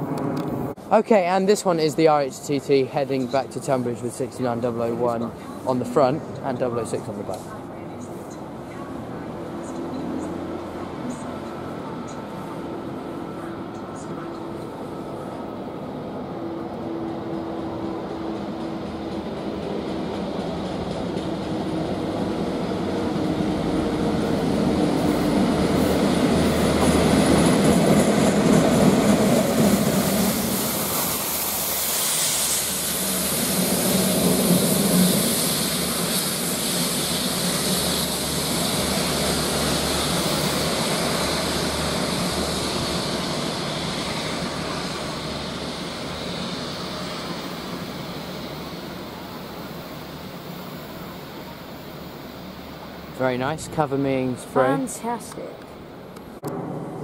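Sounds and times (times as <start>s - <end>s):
diesel train passing: 0.0s - 57.0s.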